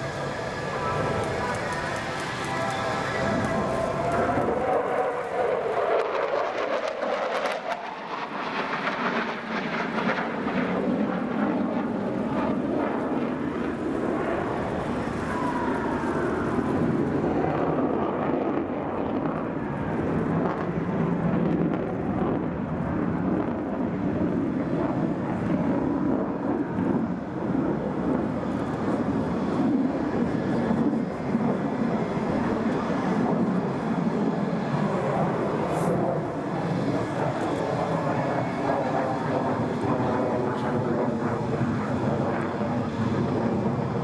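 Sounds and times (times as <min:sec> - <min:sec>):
fighter jet engines roaring: 0:00.0 - 0:44.0.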